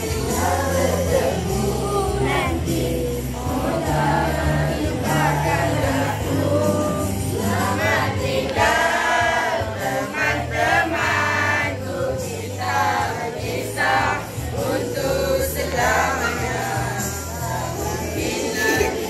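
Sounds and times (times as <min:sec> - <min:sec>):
backing music with bass line: 0:00.0 - 0:19.0
boys singing together: 0:00.0 - 0:19.0.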